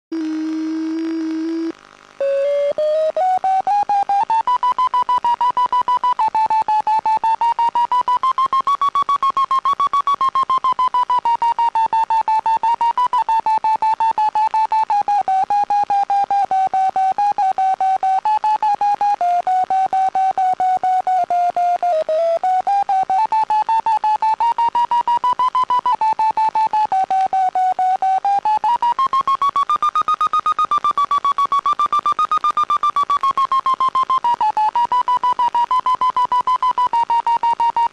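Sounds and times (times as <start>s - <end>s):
electronic variometer beeping: 0.2s - 37.9s.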